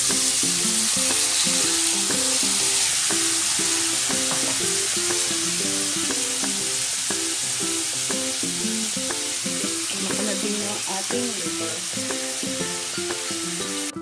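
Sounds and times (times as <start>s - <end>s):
food sizzling in a frying pan: 0.0s - 14.0s
plucked background music: 0.0s - 14.0s.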